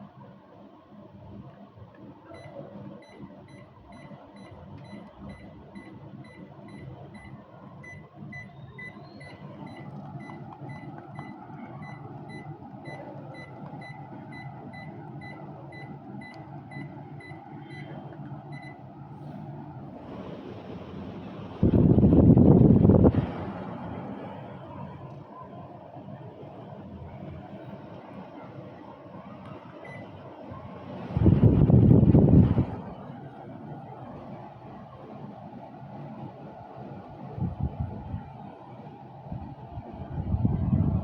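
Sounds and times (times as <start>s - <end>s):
low hum of running machinery: 0.0s - 41.0s.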